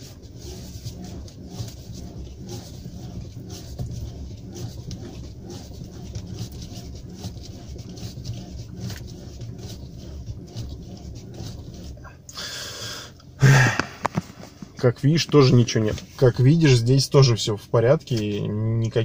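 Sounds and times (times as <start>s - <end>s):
low steady rumble: 0.0s - 19.0s
steering column clicks and rubbing: 0.0s - 19.0s.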